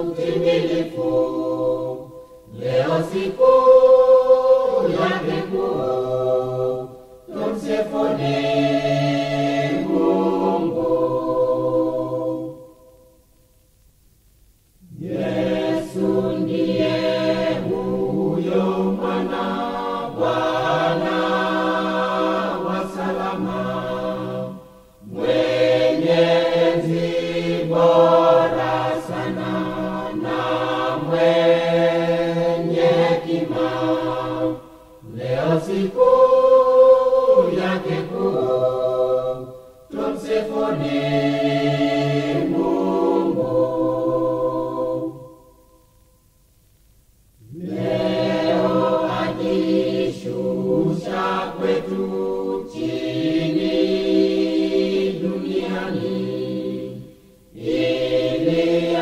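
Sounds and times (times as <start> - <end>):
choir singing a hymn in harmony: 0.0 - 13.2, 14.8 - 45.9, 47.4 - 59.0.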